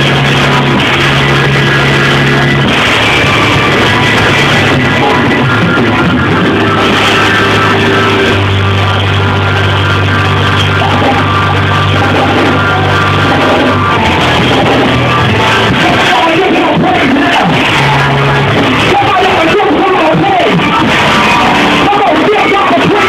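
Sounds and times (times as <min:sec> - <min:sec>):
live rock band music: 0:00.0 - 0:23.0.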